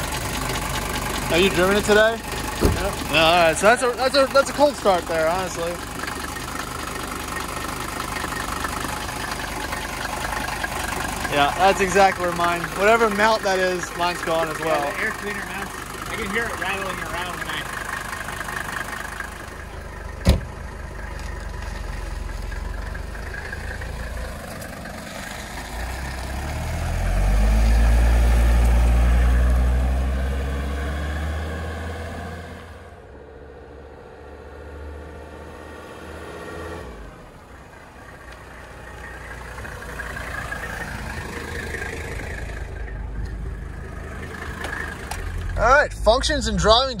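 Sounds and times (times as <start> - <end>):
diesel car engine accelerating: 0.0 - 47.0.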